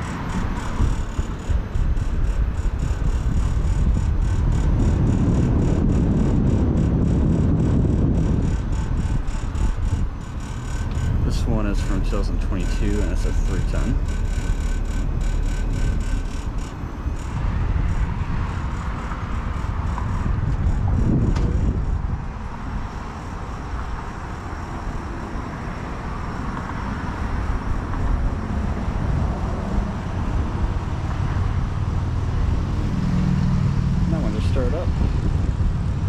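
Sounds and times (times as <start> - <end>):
compressor low hum: 0.0 - 36.0
condenser fan rushing air: 0.0 - 36.0.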